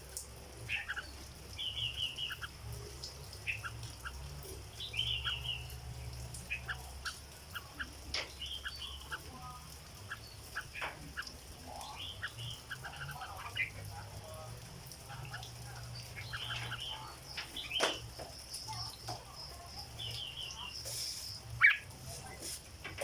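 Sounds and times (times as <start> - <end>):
bird singing chattering phrases: 0.6 - 23.0.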